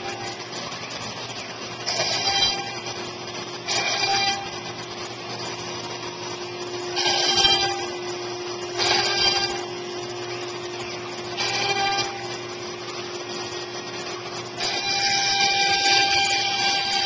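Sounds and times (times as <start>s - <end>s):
wood router spindle humming: 0.0s - 1.2s, 1.8s - 17.0s
high-pitched router whine: 0.0s - 17.0s.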